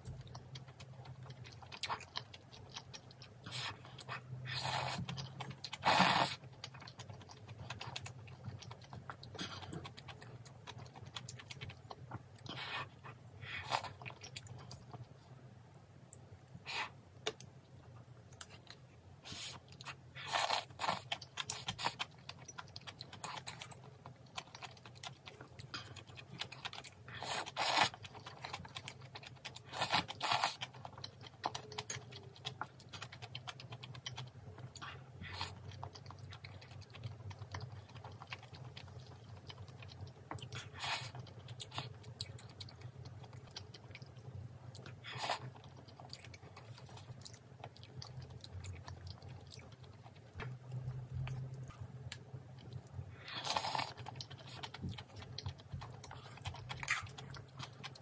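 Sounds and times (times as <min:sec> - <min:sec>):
person chewing and crunching: 0:00.0 - 0:15.2, 0:18.3 - 0:58.0.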